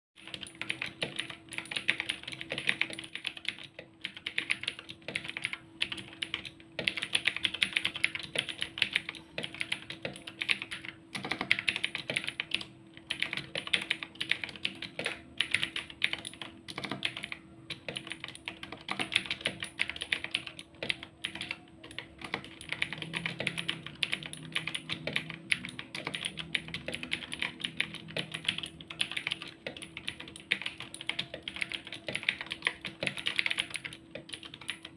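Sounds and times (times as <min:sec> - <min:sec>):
mechanical keyboard typing: 0:00.2 - 0:34.9.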